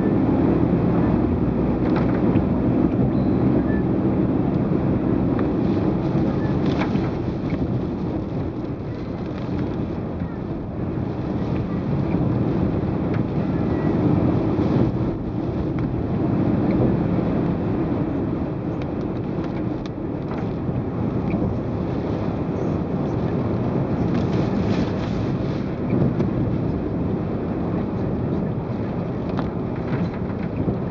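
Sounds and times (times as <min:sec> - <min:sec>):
strong wind and rain rushing: 0:00.0 - 0:30.9.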